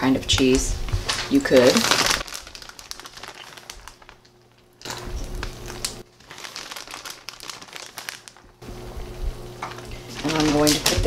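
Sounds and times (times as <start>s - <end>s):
plastic bag crinkling: 0.0s - 8.6s, 9.7s - 11.0s.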